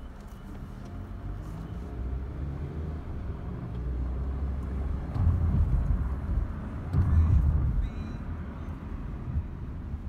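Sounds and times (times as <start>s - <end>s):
car road rumble from inside: 0.0s - 10.0s.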